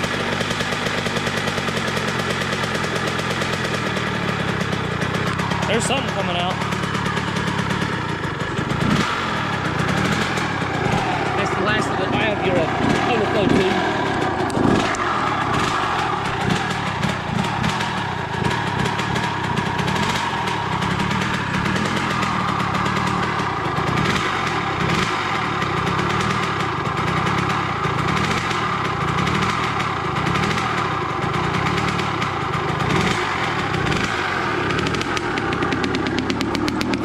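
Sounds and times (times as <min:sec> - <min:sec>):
two-stroke engine revving unevenly: 0:00.0 - 0:37.0.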